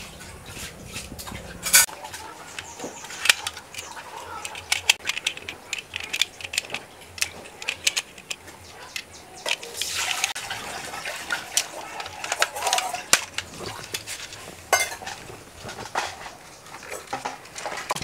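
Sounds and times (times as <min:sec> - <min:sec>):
plastic clicks and rattles: 0:01.7 - 0:10.4, 0:11.2 - 0:18.0.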